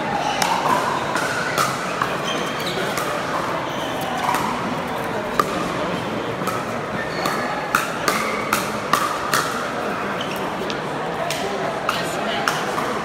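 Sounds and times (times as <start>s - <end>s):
spectators chatting: 0.0s - 13.0s.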